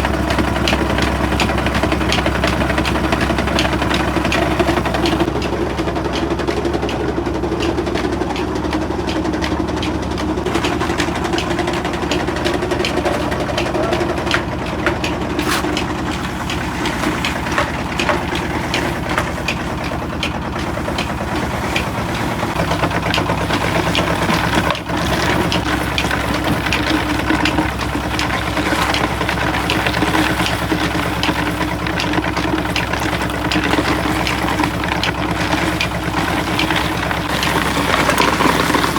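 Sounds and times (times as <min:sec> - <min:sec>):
engine-driven machinery humming: 0:00.0 - 0:38.9
sharp knocks and clatter: 0:00.0 - 0:38.9.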